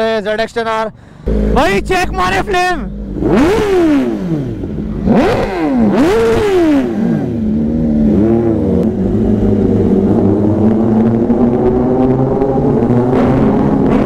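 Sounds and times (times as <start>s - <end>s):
motorcycle engine revving and idling: 1.2s - 14.0s.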